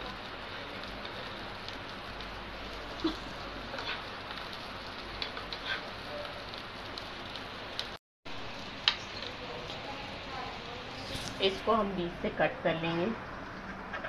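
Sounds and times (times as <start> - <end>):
omelette sizzling in a frying pan: 0.0 - 12.5.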